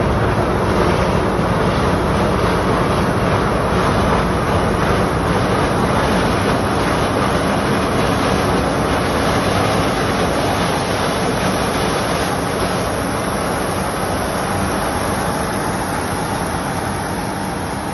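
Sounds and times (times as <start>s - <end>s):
corn harvester engine running: 0.0s - 17.9s.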